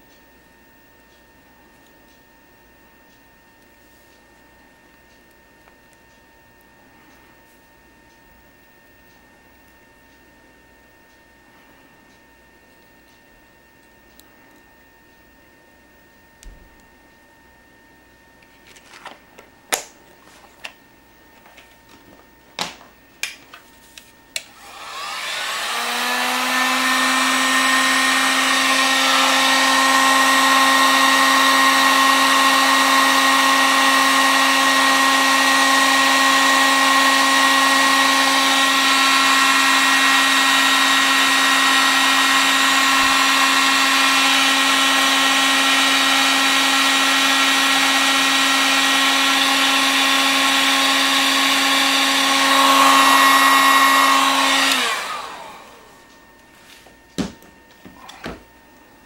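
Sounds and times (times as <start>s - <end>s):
heat gun humming whine: 0.0s - 59.0s.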